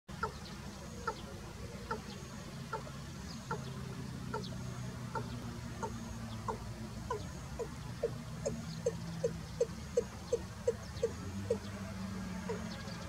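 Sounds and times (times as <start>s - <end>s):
bird clucking calls: 0.1s - 13.0s.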